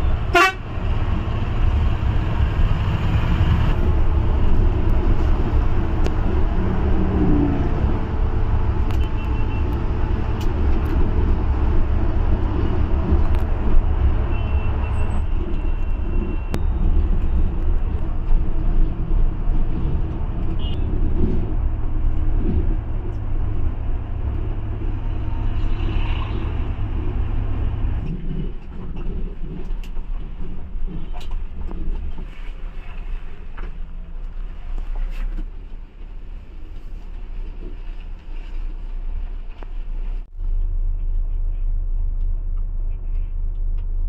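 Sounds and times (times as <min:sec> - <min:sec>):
heavy vehicle engine rumbling: 0:00.0 - 0:44.0.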